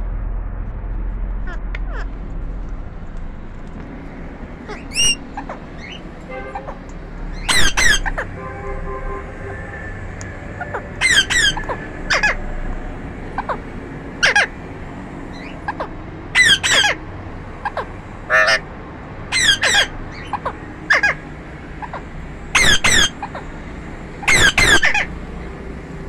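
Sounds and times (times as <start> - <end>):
parakeets squawking: 1.5 - 2.1, 4.3 - 25.6.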